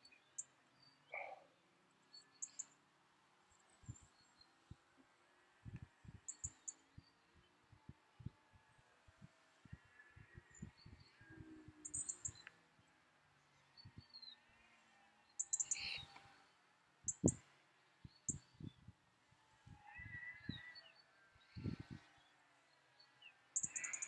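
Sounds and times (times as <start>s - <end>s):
small birds chirping: 0.0s - 2.8s, 3.4s - 8.5s, 9.6s - 24.0s.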